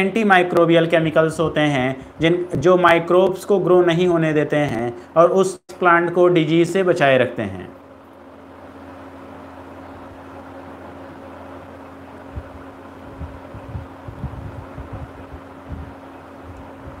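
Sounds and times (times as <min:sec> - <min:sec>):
recording hum and hiss: 0:00.0 - 0:17.0.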